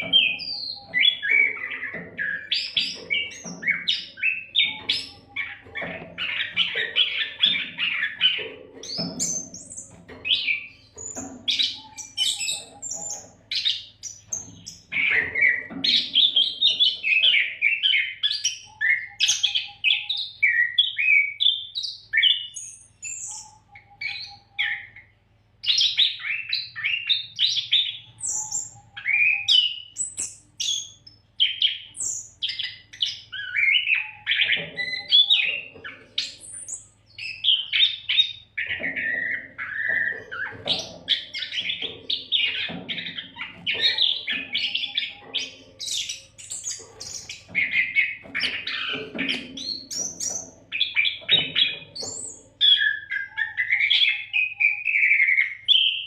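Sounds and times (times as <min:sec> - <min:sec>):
bird singing whistles and trills: 0:00.0 - 0:56.0.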